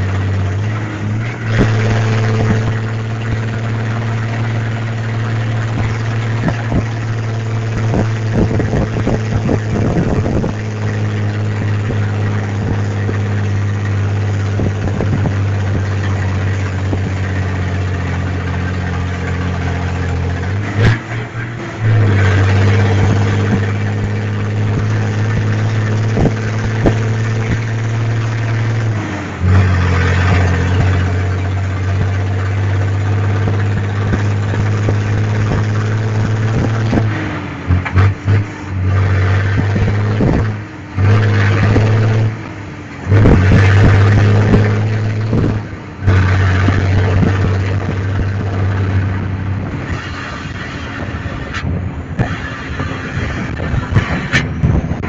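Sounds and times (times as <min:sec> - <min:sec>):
truck diesel engine rumbling: 0:00.0 - 0:55.0.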